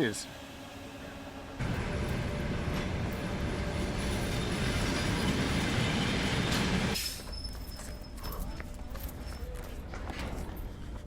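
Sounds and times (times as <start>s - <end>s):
train rolling on rails: 0.0s - 11.0s.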